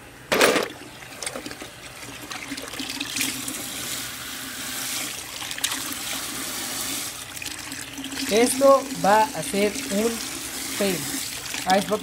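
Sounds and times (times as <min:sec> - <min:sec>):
water running into a bucket: 0:00.7 - 0:12.0.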